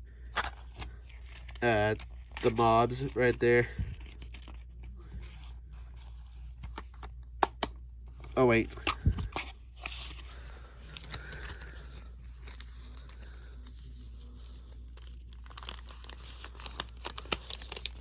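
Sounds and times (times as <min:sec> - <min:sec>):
packaging crinkling and rustling: 0:00.2 - 0:18.0.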